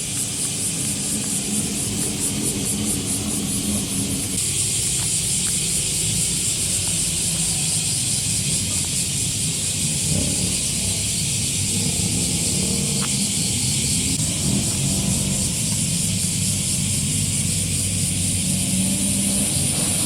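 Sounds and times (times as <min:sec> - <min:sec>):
car engine running at low revs: 0:00.0 - 0:20.0
steady high hiss: 0:00.0 - 0:20.0.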